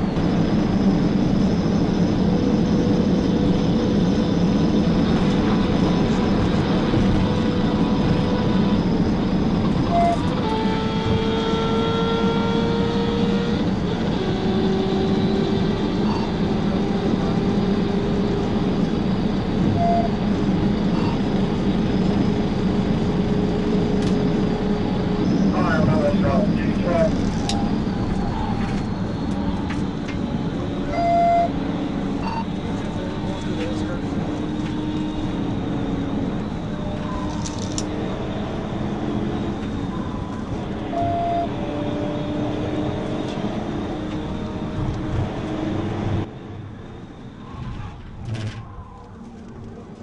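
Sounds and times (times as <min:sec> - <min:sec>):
car interior road noise: 0:00.0 - 0:50.0.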